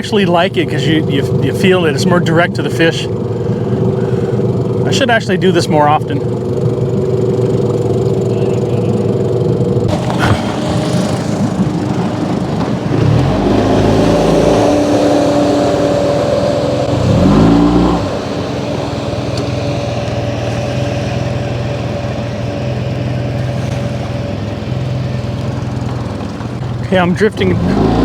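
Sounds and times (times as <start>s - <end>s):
motorboat engine revving: 0.0s - 28.0s.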